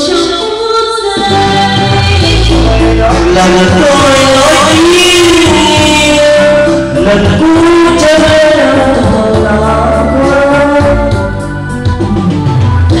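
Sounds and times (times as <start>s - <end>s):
song with sung vocals and bass: 0.0s - 13.0s.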